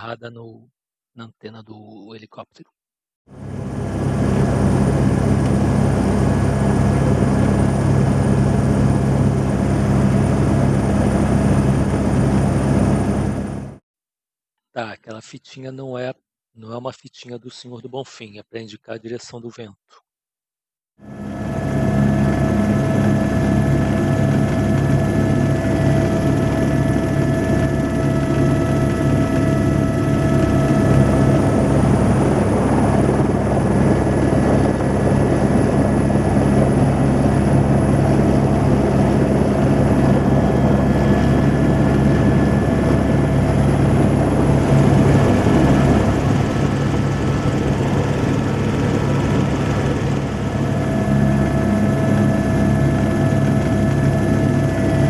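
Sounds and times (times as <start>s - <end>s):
helicopter rotor and engine: 3.3s - 13.8s, 21.0s - 55.0s.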